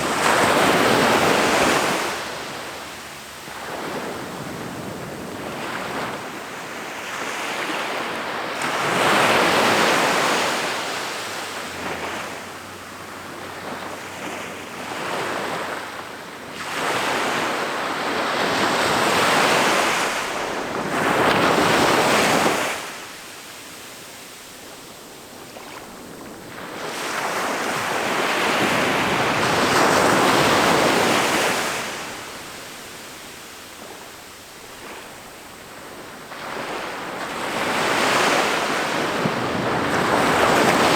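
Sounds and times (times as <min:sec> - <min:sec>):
ocean waves breaking: 0:00.0 - 0:15.8, 0:16.8 - 0:23.2, 0:24.7 - 0:40.9.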